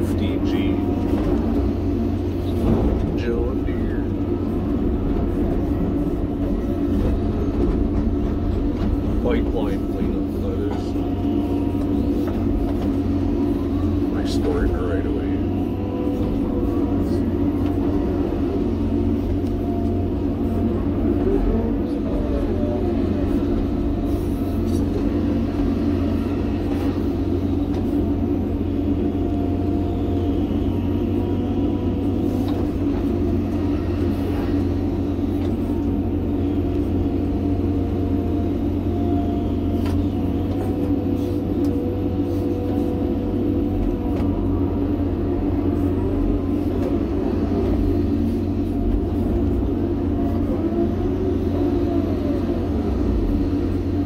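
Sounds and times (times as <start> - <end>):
excavator diesel engine running: 0.0 - 54.0
faint hydraulic whine: 0.0 - 54.0.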